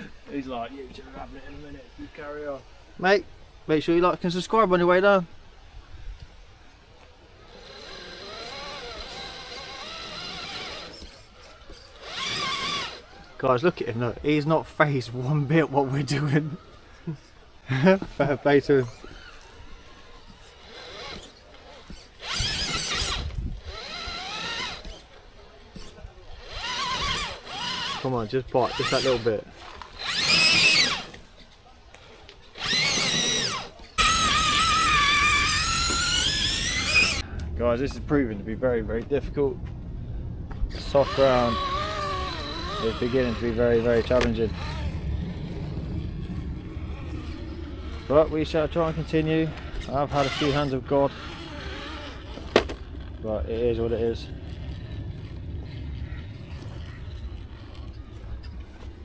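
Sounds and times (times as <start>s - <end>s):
electric motor and gearbox whining: 6.9s - 59.0s.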